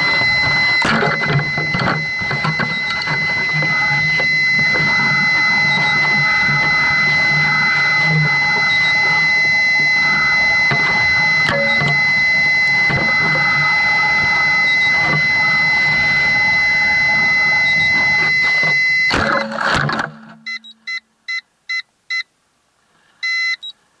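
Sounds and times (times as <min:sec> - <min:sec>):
high electronic tone: 0:00.0 - 0:21.4
electronic beeps: 0:00.0 - 0:22.3, 0:23.2 - 0:23.8.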